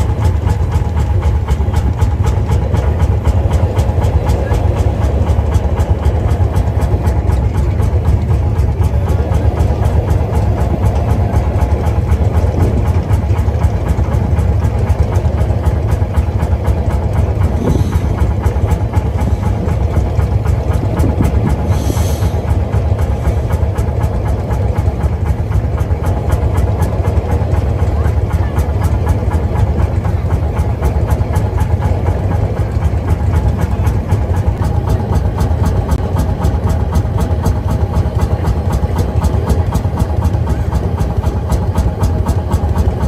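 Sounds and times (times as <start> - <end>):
tractor engine chugging: 0.0 - 43.0.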